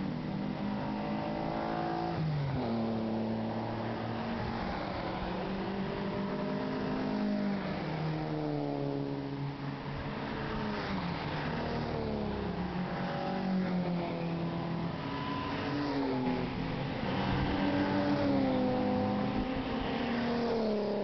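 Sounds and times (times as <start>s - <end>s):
race cars passing at speed: 0.0s - 21.0s.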